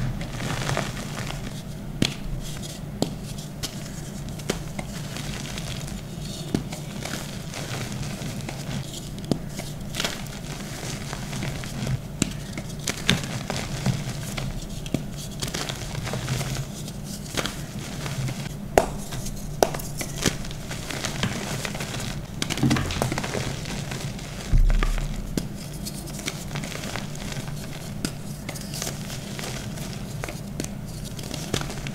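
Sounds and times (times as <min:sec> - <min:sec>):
hands crushing chalk: 0:00.1 - 0:31.9.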